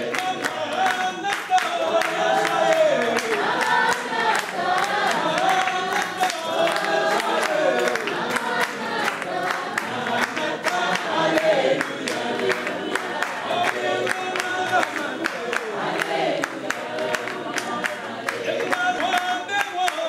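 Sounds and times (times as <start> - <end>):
group of people singing: 0.0 - 20.0
rhythmic hand clapping: 0.0 - 20.0.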